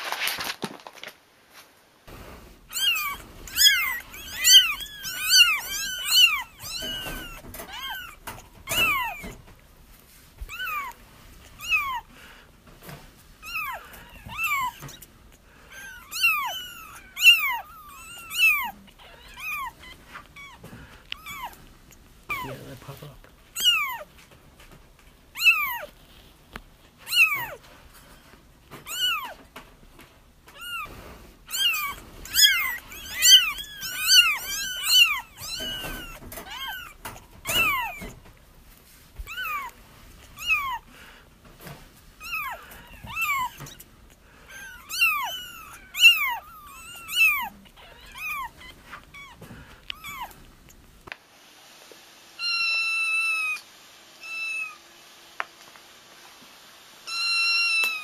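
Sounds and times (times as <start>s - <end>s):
kittens mewing: 2.1s - 9.7s, 10.4s - 26.2s, 26.9s - 38.4s, 39.2s - 51.1s, 52.4s - 54.8s, 57.1s - 58.0s.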